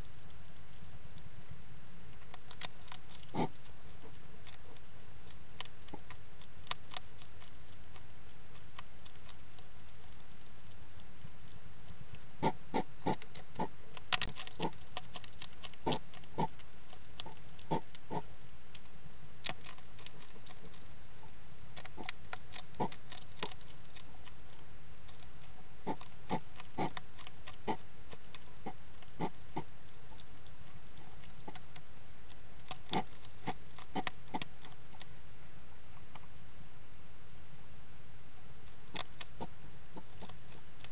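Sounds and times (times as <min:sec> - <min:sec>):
steady microphone hiss: 0:00.0 - 0:40.9
hedgehog crunching dry food: 0:02.1 - 0:35.2, 0:38.5 - 0:40.9.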